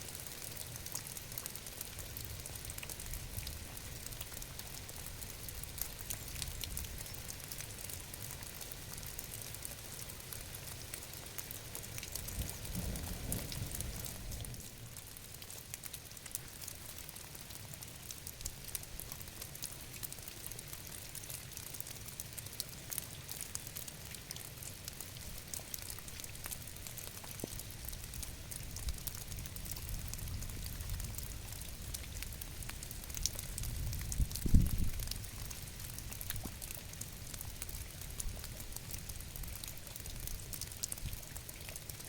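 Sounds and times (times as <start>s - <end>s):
steady rain: 0.0s - 42.0s.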